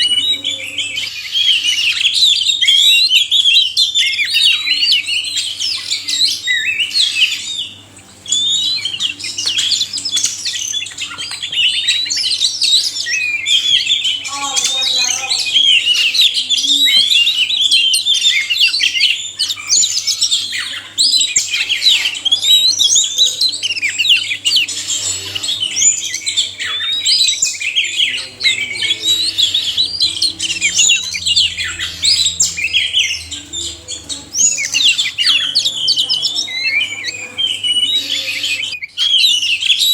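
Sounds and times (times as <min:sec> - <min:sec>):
birds singing whistles and chatter: 0:00.0 - 0:39.9.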